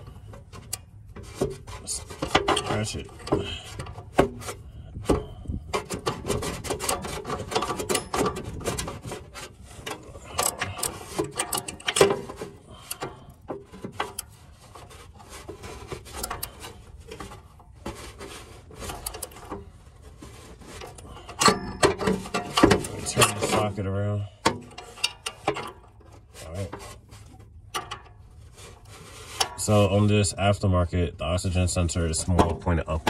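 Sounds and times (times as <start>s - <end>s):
metal scraping and rubbing: 0.0s - 30.8s.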